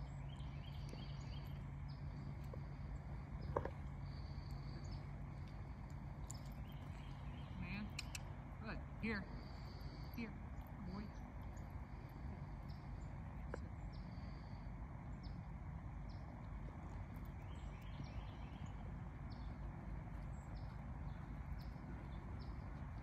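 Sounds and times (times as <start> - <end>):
small birds chirping: 0.0 - 23.0
wind rumble on microphone: 0.0 - 23.0.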